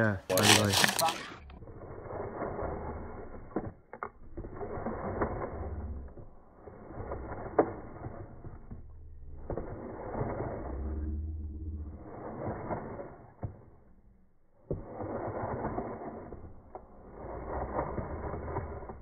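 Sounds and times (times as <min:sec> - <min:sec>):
wood grinding on wood: 0:00.0 - 0:19.0.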